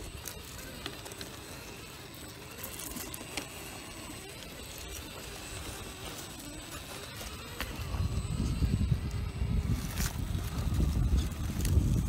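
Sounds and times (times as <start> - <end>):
electric motor whine: 0.0 - 12.0
tires clicking on stone: 0.0 - 12.0.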